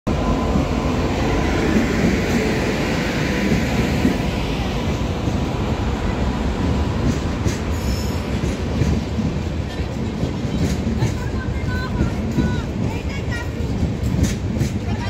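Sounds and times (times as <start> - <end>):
train wheels rumbling on rails: 0.1 - 15.0.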